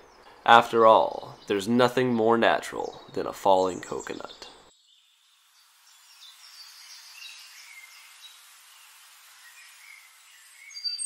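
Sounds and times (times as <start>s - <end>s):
bird chirps: 0.0s - 11.0s
steady high hiss: 0.0s - 11.0s.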